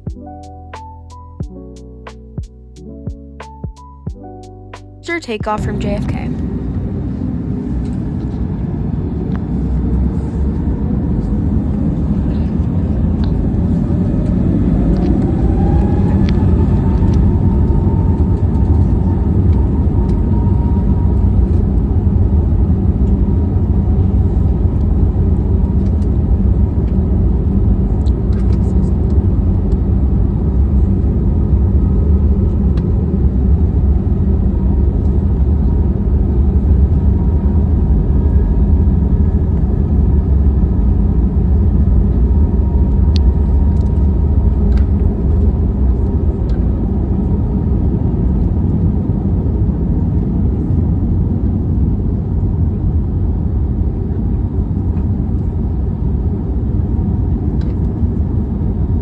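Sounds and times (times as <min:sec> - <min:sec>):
airliner cabin rumble: 0:05.2 - 0:59.0.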